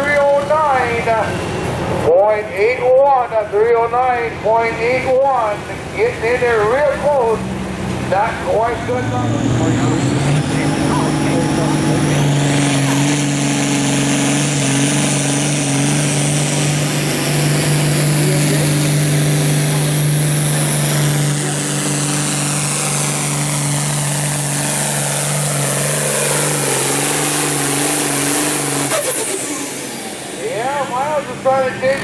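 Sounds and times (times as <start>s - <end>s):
tractor engine under heavy load: 0.0s - 32.0s
high whine: 5.8s - 32.0s.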